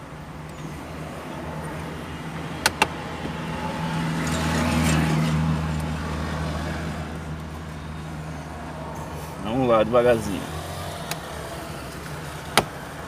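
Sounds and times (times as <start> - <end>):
motor vehicle hum: 0.0 - 13.0.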